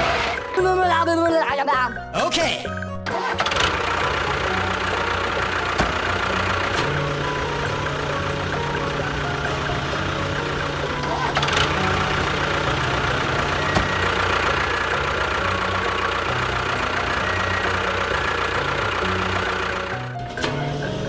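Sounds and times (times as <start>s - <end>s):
motor running: 0.0s - 1.1s, 2.9s - 21.0s.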